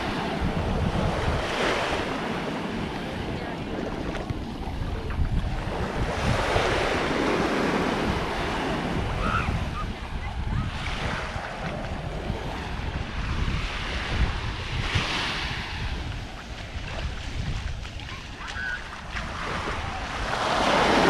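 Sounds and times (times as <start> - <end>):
surf washing onto beach: 0.0 - 21.0
wind buffeting microphone: 0.0 - 21.0.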